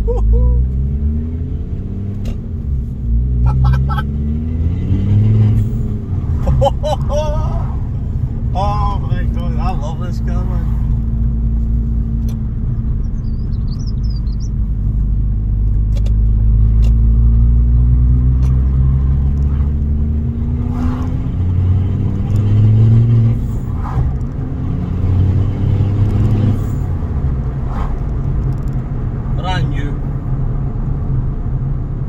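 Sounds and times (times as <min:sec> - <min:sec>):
car engine accelerating: 0:00.0 - 0:32.0
road rumble: 0:00.0 - 0:32.0.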